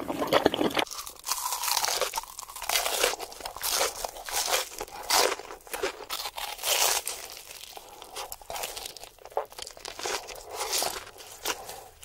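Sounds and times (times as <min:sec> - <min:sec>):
crisp food crunching: 0:00.0 - 0:12.0.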